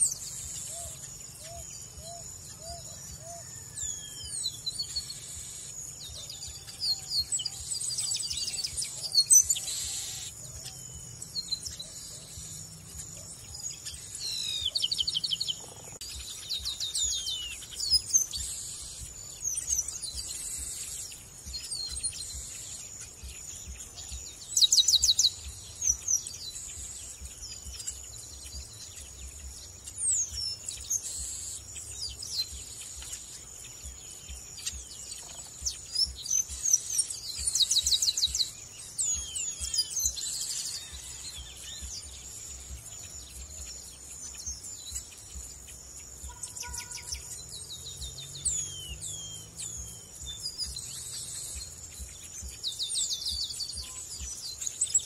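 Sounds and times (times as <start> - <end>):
blackbirds whistling: 0.0 - 55.0.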